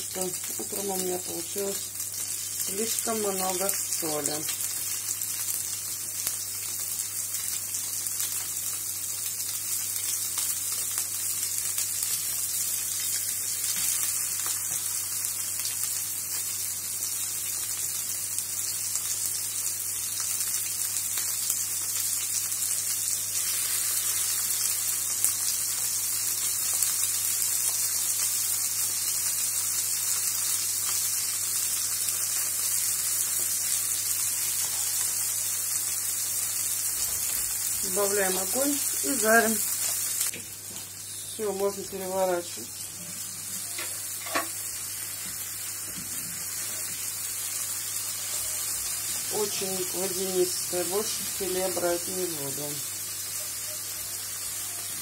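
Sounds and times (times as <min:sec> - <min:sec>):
fish frying in oil: 0:00.0 - 0:42.7, 0:43.3 - 0:55.0.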